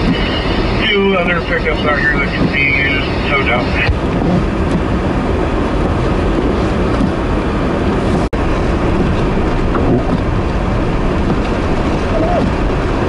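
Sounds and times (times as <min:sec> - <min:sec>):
snowstorm wind: 0:00.0 - 0:13.0
vehicles rumbling: 0:00.0 - 0:13.0.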